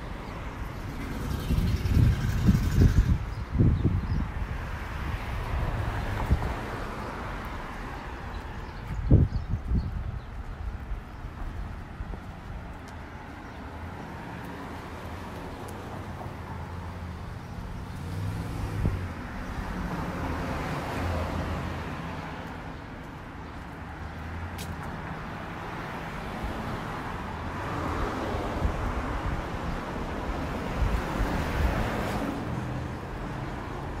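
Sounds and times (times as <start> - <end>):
cars passing: 0.0 - 34.0.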